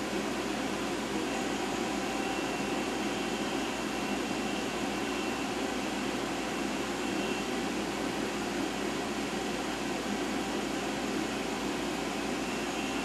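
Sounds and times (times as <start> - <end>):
high whine of axis drive: 0.0 - 13.0
machining center whirring hiss: 0.0 - 13.0.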